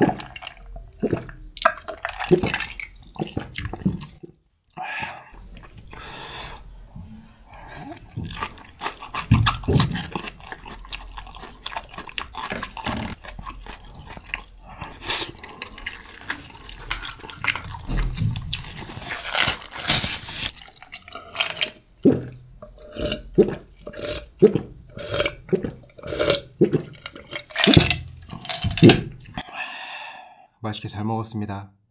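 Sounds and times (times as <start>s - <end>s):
wet chewing and slurping: 0.0s - 6.7s, 7.4s - 29.5s
swallowing drink: 0.0s - 17.9s, 20.7s - 30.5s.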